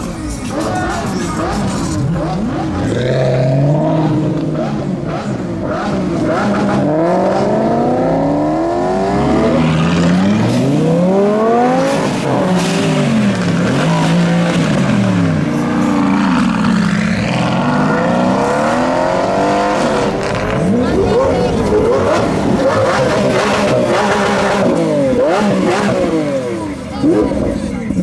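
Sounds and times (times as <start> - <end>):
car engines revving and accelerating: 0.0 - 28.0.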